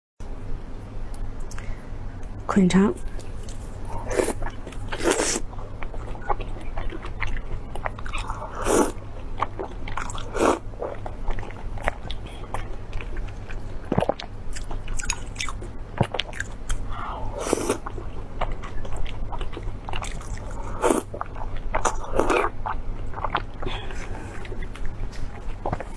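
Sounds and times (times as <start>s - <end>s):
crunchy chewing: 3.1s - 25.9s.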